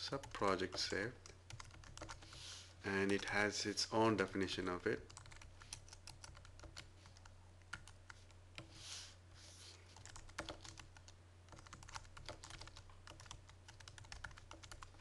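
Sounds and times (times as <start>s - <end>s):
faint keyboard typing: 0.0s - 3.5s, 4.1s - 8.8s, 9.9s - 15.0s.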